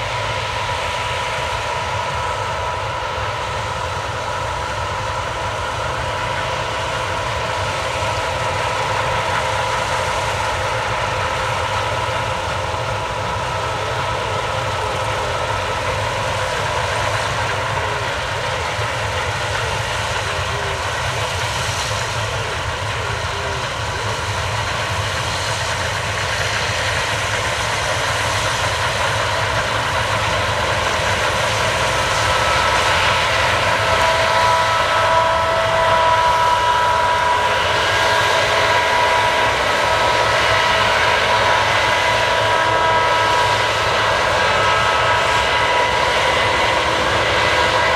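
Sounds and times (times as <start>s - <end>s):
combine harvester engine drone: 0.0s - 47.9s
whining machinery tones: 0.1s - 47.9s.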